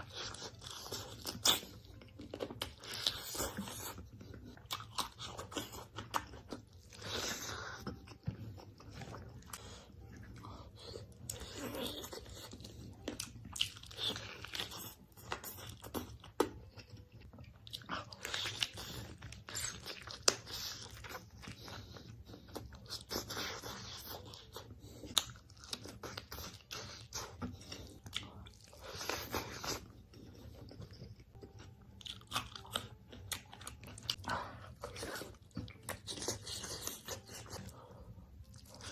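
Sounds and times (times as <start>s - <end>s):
food crunching while chewed: 0.0s - 38.9s.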